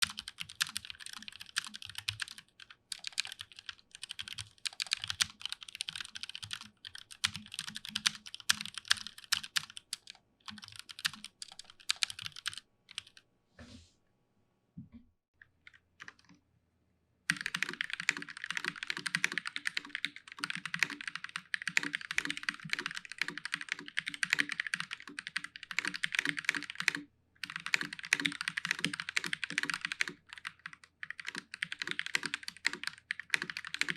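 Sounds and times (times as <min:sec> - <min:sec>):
fast typing on mechanical keyboard: 0:00.0 - 0:13.2, 0:17.3 - 0:33.9.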